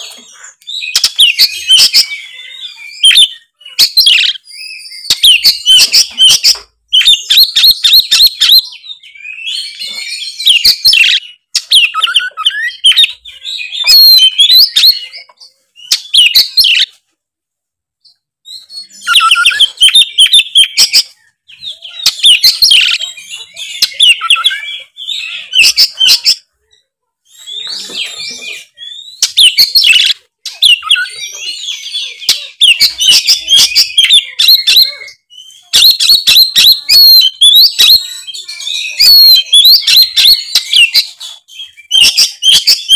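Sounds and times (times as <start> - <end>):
bird singing loudly: 0.0 - 17.0, 18.1 - 26.5, 27.3 - 42.9.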